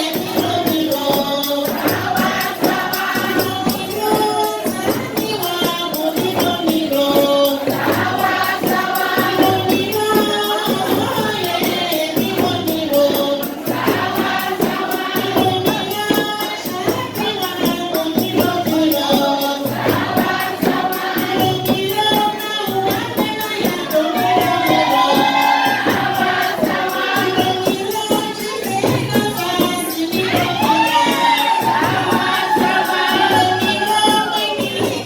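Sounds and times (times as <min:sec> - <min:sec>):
group of voices singing: 0:00.0 - 0:35.0
tambourine jingling: 0:00.0 - 0:35.0.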